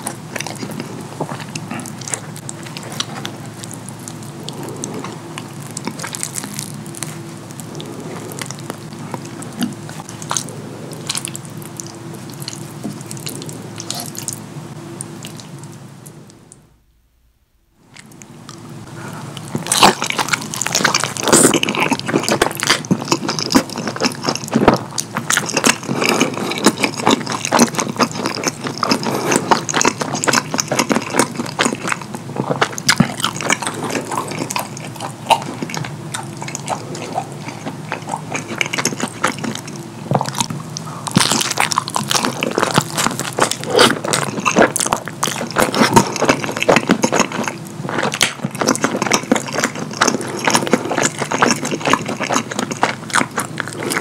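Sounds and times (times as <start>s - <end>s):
wet chewing and lip smacking: 0.0s - 14.4s, 19.3s - 54.0s.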